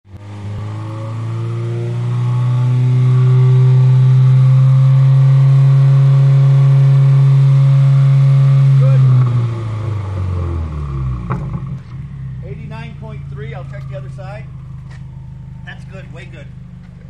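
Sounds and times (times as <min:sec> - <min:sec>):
car engine revving loudly: 0:00.1 - 0:17.0.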